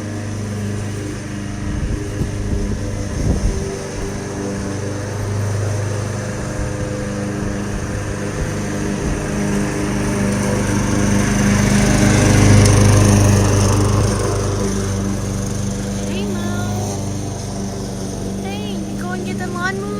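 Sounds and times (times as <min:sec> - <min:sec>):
lawn mower engine running: 0:00.0 - 0:19.9.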